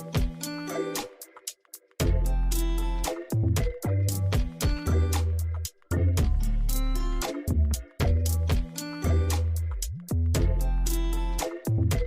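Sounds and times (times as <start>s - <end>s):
upbeat music with guitar and drums: 0.0s - 12.0s.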